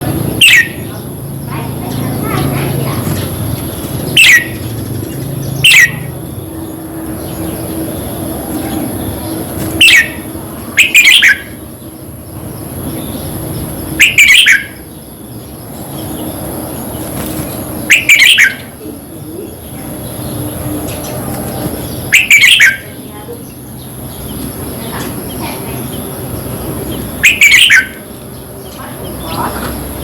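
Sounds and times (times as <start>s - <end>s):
background hum and hiss: 0.0s - 30.0s
bird chirping: 0.0s - 30.0s.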